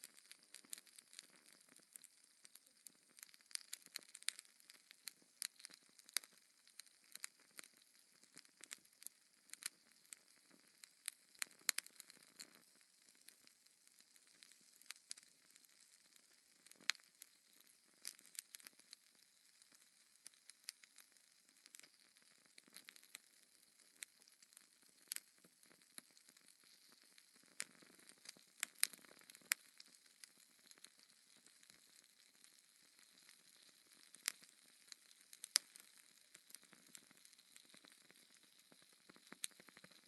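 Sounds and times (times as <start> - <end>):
faint fire hiss: 0.0 - 40.0
fire crackling and popping: 0.0 - 40.0.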